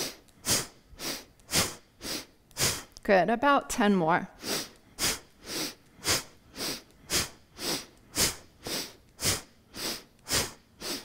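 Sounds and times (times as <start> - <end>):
woman's rhythmic forceful breathing: 0.0 - 3.0, 4.3 - 11.0.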